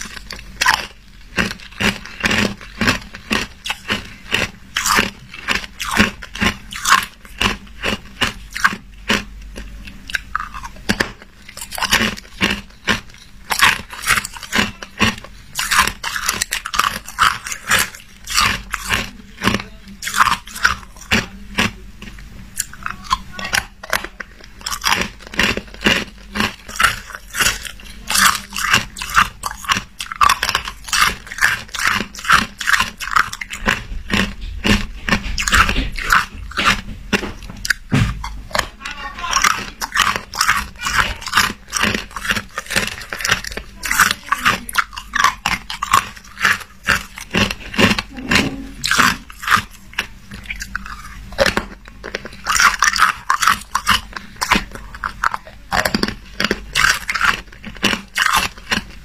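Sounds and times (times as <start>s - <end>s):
person crunching ice cubes: 0.0s - 59.0s.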